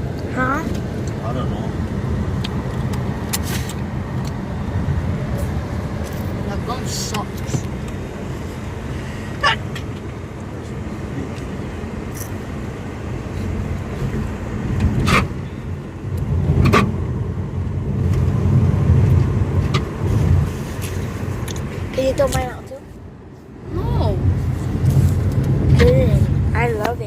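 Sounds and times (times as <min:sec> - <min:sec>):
road vehicle rumble: 0:00.0 - 0:27.0.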